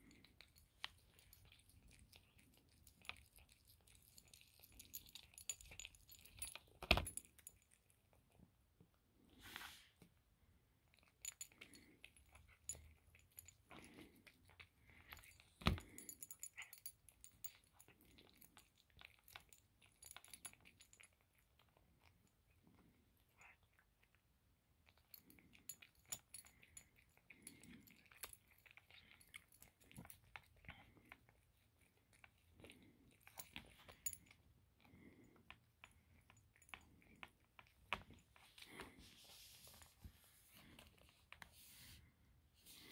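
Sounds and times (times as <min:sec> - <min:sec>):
cat chewing crisp chicken: 0:00.0 - 0:09.4, 0:10.2 - 0:41.6
faint crunching and smacking: 0:00.0 - 0:42.9.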